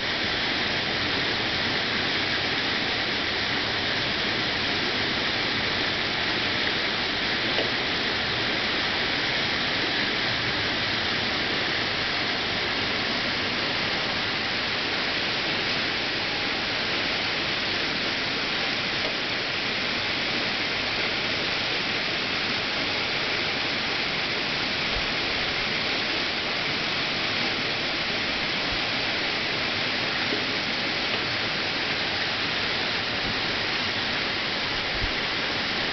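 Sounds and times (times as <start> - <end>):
flooded creek rushing: 0.0 - 35.9.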